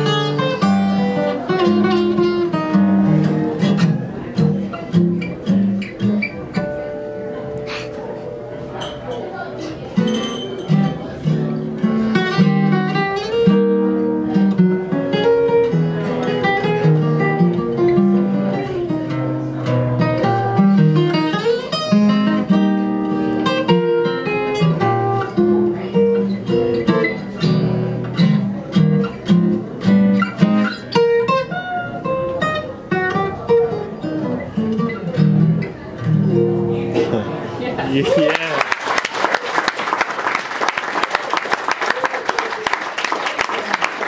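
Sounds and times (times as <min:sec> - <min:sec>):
acoustic guitar playing: 0:00.0 - 0:38.5.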